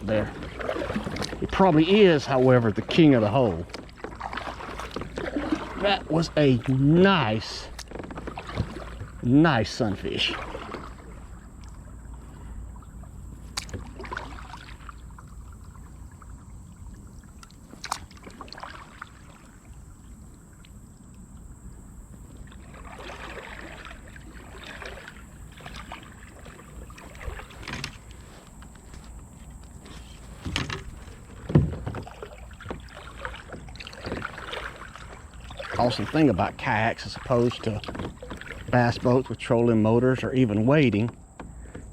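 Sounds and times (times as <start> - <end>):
paddle knock: 0.0 - 41.9
paddle strokes in water: 0.0 - 41.9.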